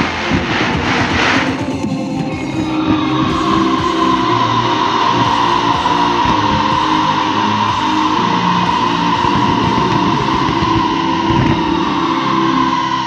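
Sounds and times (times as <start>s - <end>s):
loud music with guitar: 0.0s - 13.0s.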